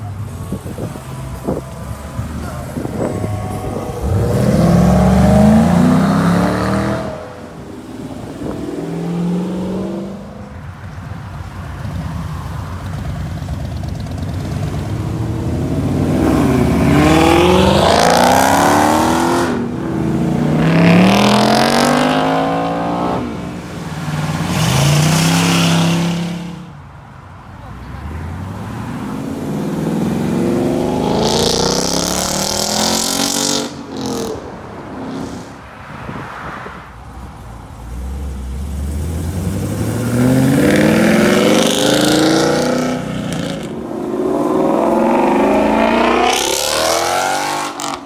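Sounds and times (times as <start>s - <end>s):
cars revving and pulling away: 0.0s - 48.0s.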